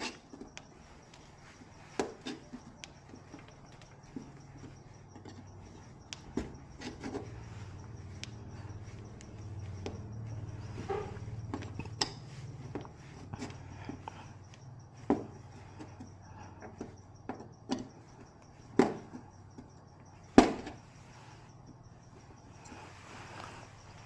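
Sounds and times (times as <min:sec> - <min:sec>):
tools clicking and knocking: 0:00.0 - 0:19.8.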